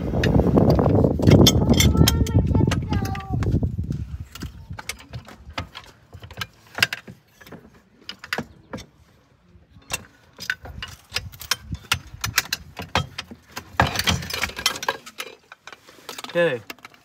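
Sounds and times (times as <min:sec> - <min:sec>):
clicks and rattles of bolts handled: 0:01.2 - 0:03.3, 0:04.2 - 0:09.2, 0:09.8 - 0:17.0.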